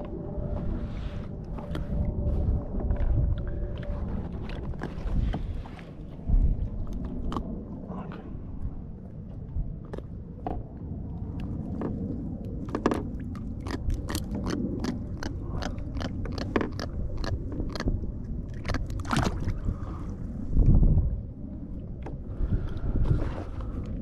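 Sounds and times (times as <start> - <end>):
low rumble of wind and water: 0.0 - 24.0.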